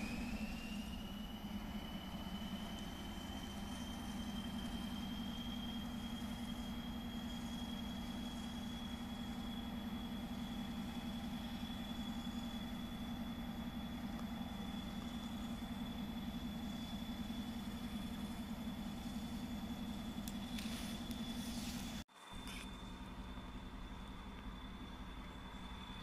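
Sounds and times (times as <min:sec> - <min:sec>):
locomotive engine humming: 0:00.0 - 0:26.0
thin high whine: 0:00.0 - 0:26.0.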